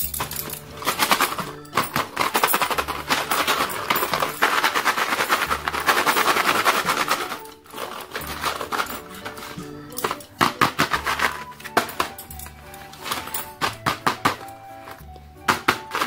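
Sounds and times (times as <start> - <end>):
background music: 0.0 - 16.0
candies rattling in a box: 0.0 - 16.0.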